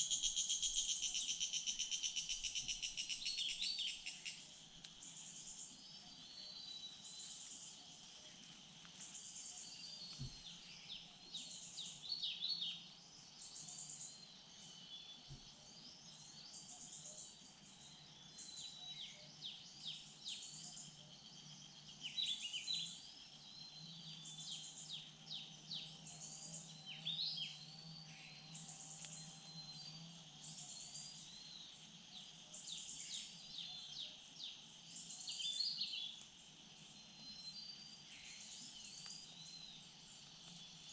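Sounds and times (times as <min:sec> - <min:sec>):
insect drone: 0:00.0 - 0:40.9
insect high chirp: 0:00.0 - 0:40.9
small birds chirping: 0:00.0 - 0:40.9.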